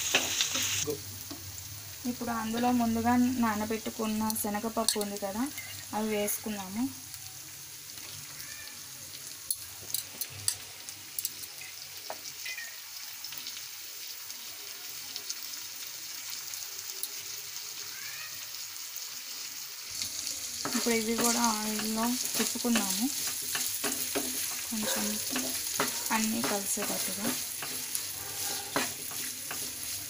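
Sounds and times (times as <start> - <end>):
oil sizzling in a frying pan: 0.0 - 30.0.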